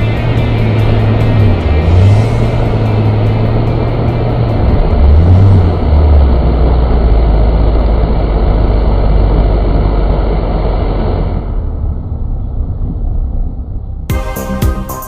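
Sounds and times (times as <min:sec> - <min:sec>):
car engine from inside cabin: 0:00.0 - 0:14.1.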